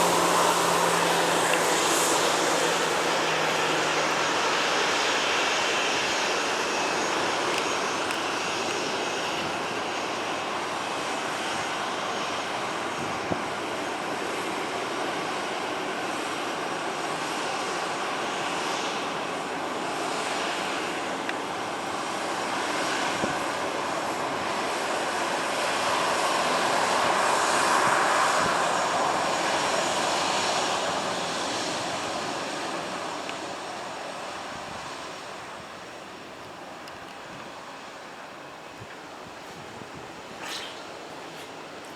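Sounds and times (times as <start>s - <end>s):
airliner engines passing: 0.0s - 41.9s.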